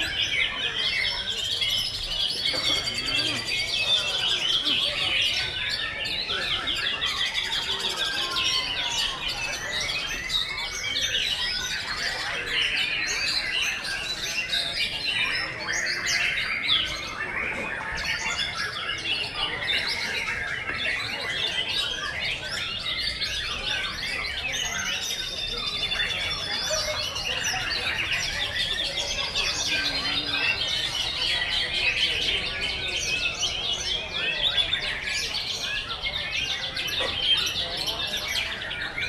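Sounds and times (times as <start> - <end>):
chorus of songbirds singing: 0.0 - 39.0.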